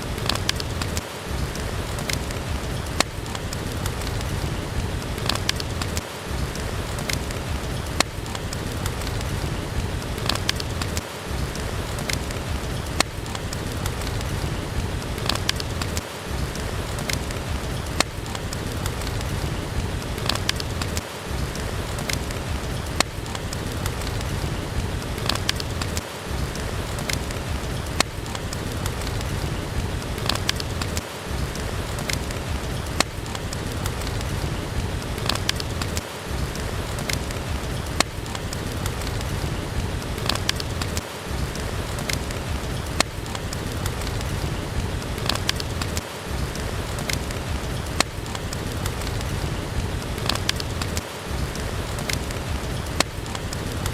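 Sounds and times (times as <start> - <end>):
steady rain: 0.0 - 53.9
wood fire crackling: 0.0 - 53.9.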